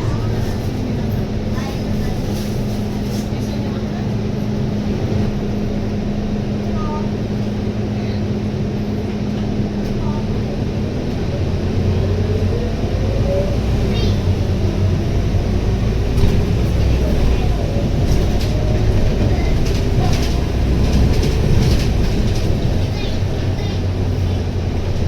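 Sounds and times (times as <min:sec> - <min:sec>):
diesel bus engine: 0:00.0 - 0:25.0.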